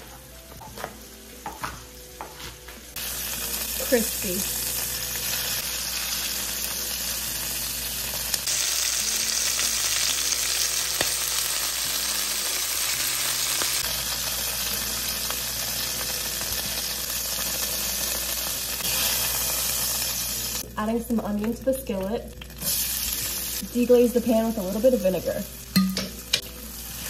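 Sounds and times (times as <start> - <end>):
chicken sizzling in hot oil: 2.9 - 27.0.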